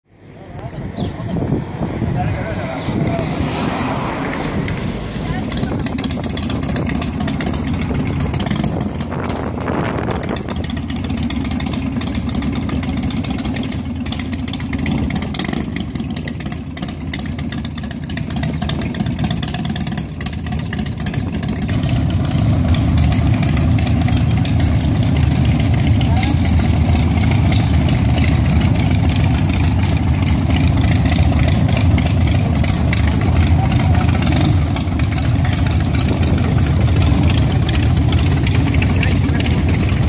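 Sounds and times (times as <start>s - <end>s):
motorcycle engines running: 0.1s - 40.0s.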